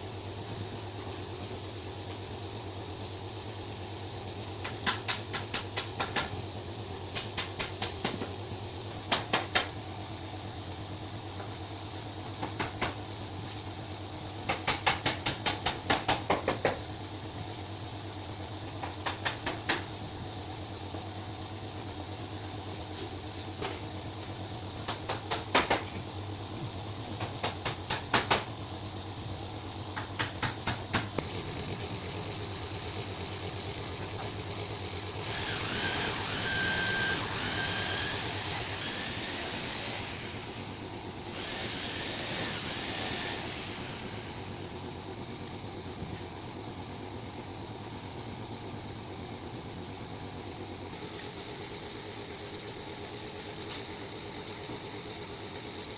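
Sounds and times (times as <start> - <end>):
hissing noise: 0.0 - 55.9
machine hum: 0.0 - 55.9.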